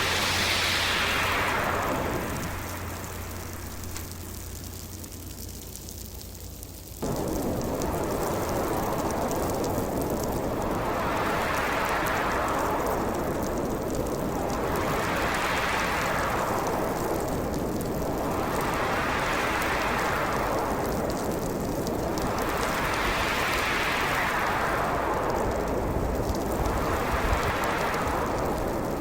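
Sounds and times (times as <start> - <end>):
howling storm wind: 0.0 - 29.0.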